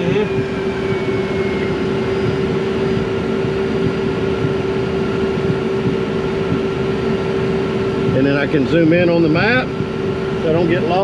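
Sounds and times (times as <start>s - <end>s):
jet engines idling from cockpit: 0.0s - 11.0s.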